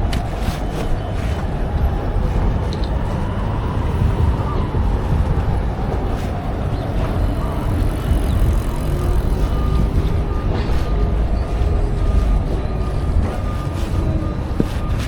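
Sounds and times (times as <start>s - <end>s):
street traffic rumble: 0.0s - 15.0s
wind: 0.0s - 15.0s.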